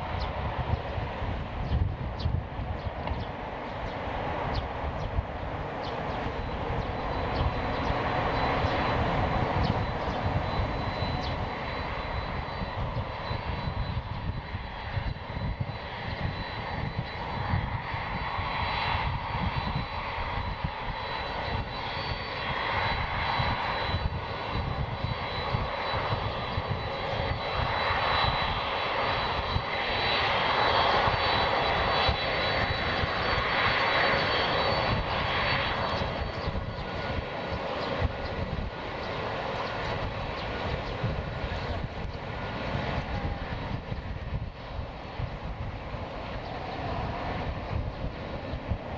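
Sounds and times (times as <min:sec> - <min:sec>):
jet engines rumbling and whining: 0:00.0 - 0:48.9.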